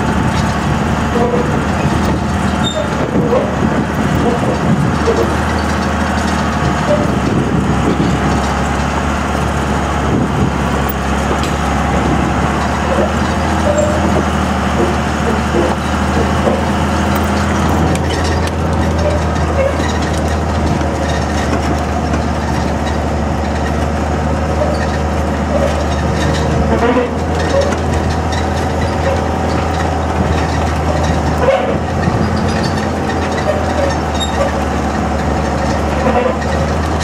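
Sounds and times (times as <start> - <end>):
diesel truck engine droning: 0.0 - 37.0.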